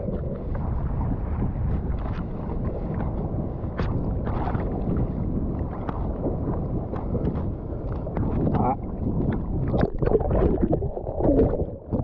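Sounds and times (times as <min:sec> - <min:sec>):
sea water sloshing and splashing: 0:00.0 - 0:12.0
wind rumbling on microphone: 0:00.0 - 0:12.0.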